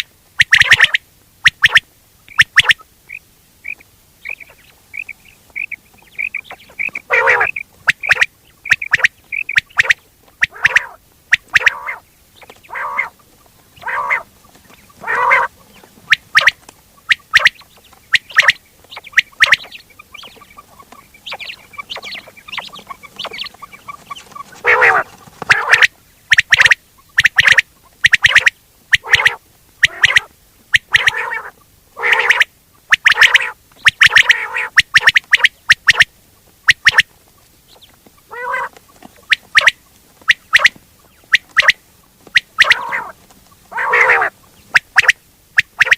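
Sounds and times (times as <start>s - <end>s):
quail calls: 0.0s - 37.1s, 37.7s - 45.9s.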